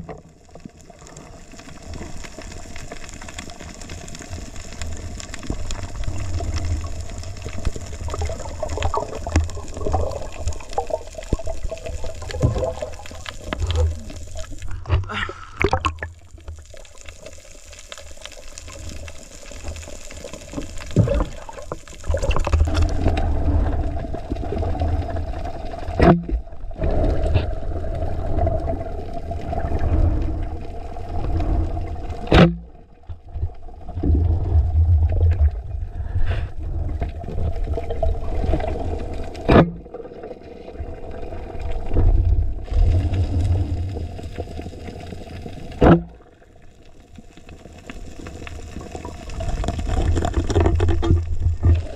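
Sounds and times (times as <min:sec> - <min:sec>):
low rumble of diver movement: 0:00.0 - 0:51.9
water rushing and gurgling: 0:00.0 - 0:51.9.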